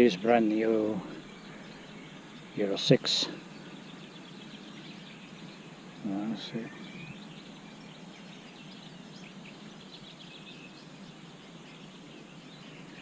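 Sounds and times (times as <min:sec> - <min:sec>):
faint bird chirps: 0:00.0 - 0:13.0
outdoor background wash: 0:00.0 - 0:13.0.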